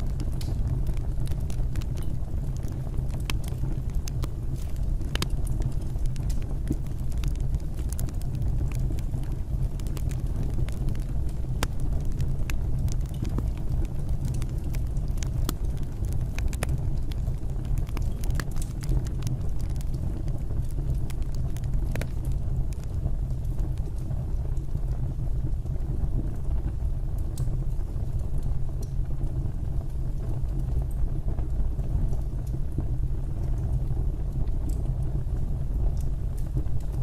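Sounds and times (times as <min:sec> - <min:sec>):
fire crackling and popping: 0:00.0 - 0:37.0
fire rumbling: 0:00.0 - 0:37.0.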